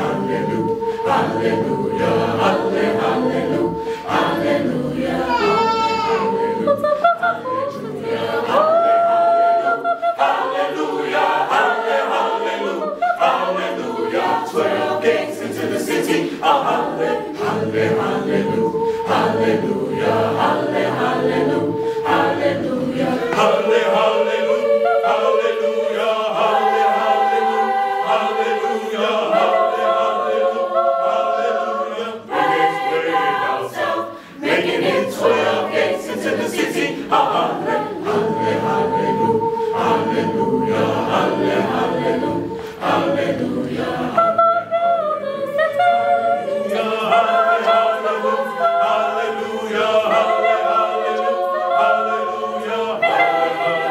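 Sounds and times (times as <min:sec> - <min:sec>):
a cappella vocal ensemble singing: 0:00.0 - 0:53.9.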